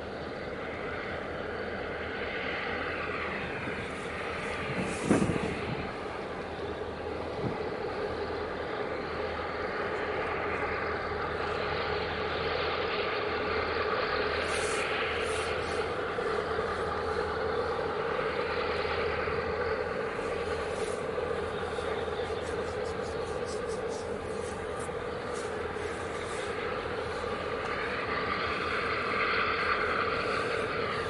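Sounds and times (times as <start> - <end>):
engine drone: 0.0 - 31.0.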